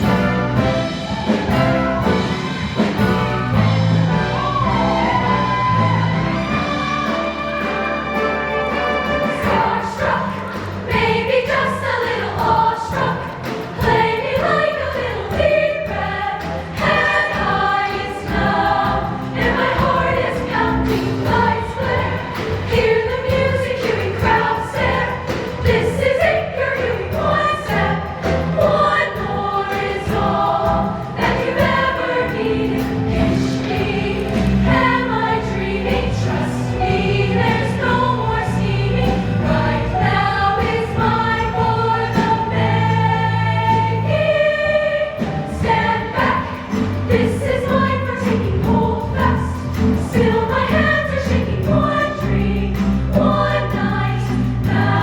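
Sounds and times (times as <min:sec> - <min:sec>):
backing track: 0:00.0 - 0:55.0
choir singing in parts: 0:00.0 - 0:55.0.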